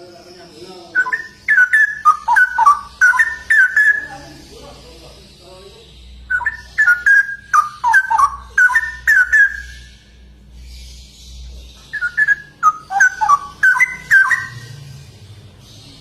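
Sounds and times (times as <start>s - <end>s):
bird singing whistled notes: 0.0s - 4.7s, 5.9s - 16.0s.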